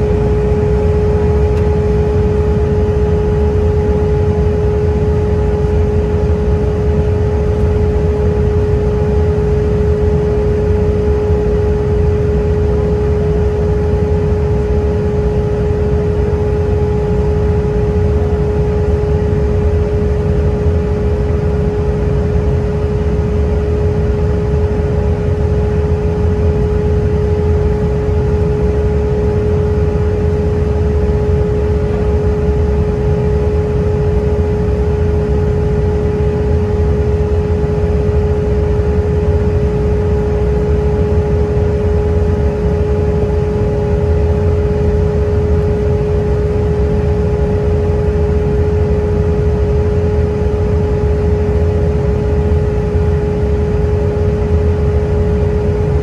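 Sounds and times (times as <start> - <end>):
airplane cabin rumble: 0.0 - 56.0
steady engine hum: 0.0 - 56.0.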